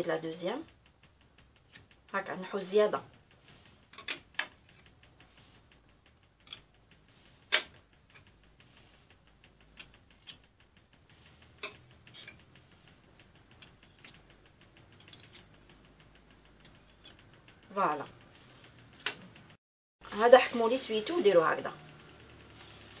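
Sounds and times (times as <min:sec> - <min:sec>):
faint even ticking: 0:00.0 - 0:23.0.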